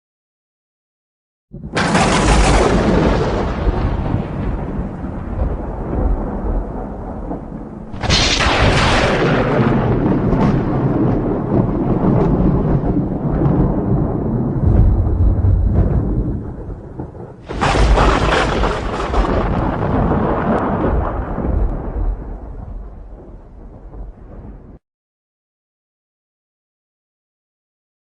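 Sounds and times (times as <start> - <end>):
thunder crack and rumble: 1.5 - 24.8.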